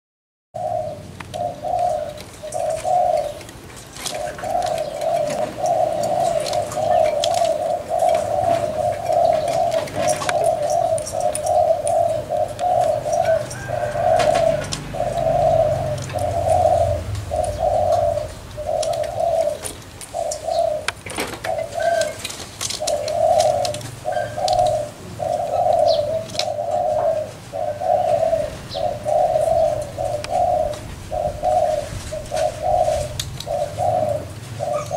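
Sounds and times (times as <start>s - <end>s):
doves cooing: 0.6s - 34.9s.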